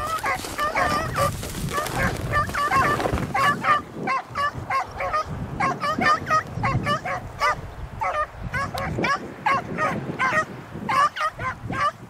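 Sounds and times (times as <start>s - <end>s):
beagles baying: 0.0s - 12.0s.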